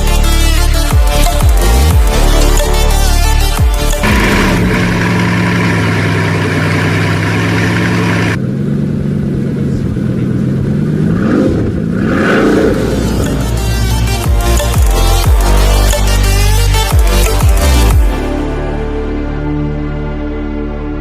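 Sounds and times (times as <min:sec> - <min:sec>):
car engine running: 0:00.0 - 0:18.3.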